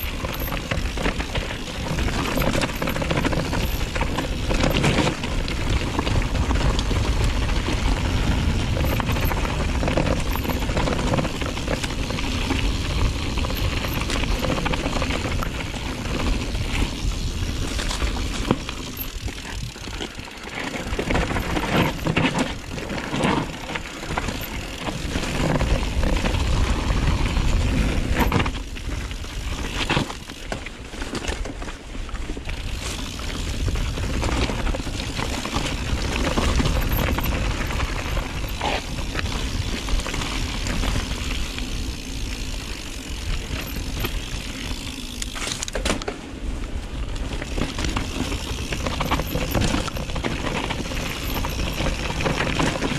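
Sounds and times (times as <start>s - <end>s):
bike rattling over rough trail: 0.0s - 52.9s.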